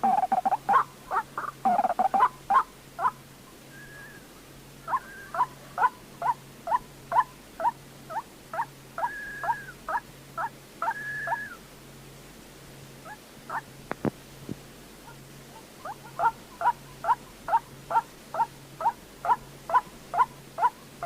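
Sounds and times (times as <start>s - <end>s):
waterhen call notes: 0.0s - 11.6s, 15.0s - 21.0s.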